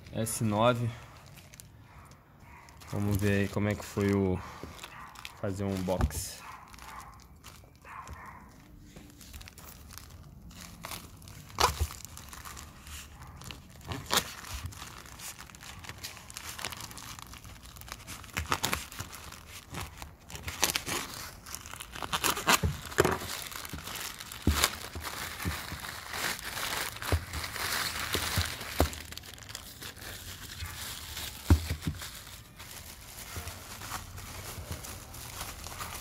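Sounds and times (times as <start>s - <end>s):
plastic bag crinkling and tearing: 0.0s - 36.0s.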